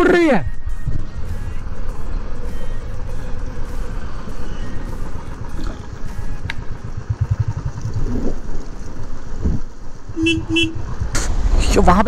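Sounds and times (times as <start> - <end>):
motorcycle engine rumble: 0.0 - 12.0
wind buffeting microphone: 0.6 - 12.0.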